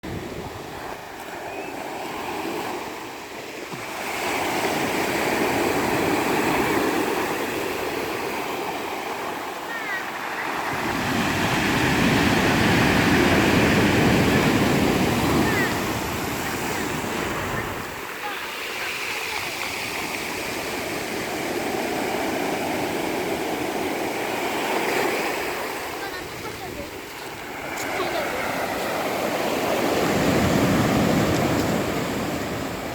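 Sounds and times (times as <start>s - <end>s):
ocean waves breaking on shore: 0.0s - 32.9s.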